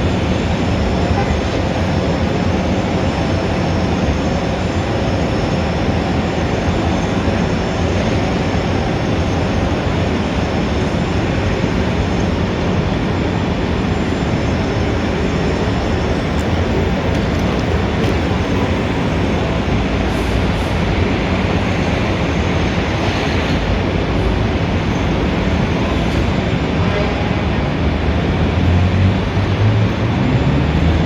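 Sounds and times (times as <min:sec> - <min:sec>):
rumble of traffic: 0:00.0 - 0:31.0.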